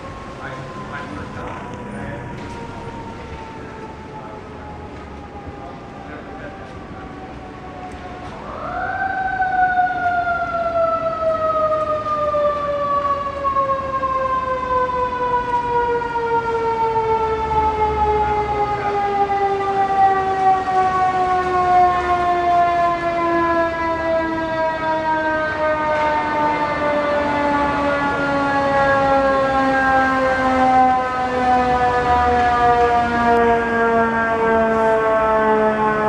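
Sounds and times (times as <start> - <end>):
mechanical siren winding down: 0.0 - 36.0.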